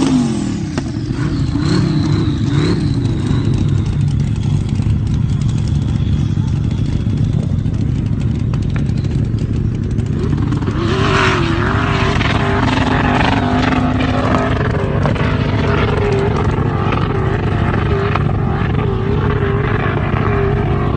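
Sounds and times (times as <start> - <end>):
car engine running loud: 0.0 - 20.9
wavering tone: 0.9 - 20.9.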